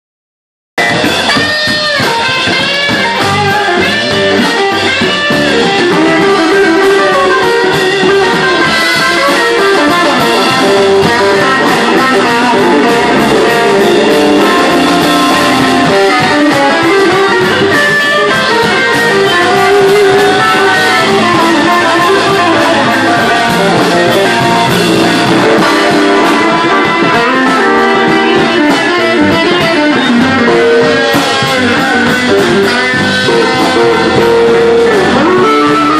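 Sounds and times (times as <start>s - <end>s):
blues band playing live: 0.8s - 35.9s
electric guitars: 0.8s - 35.9s.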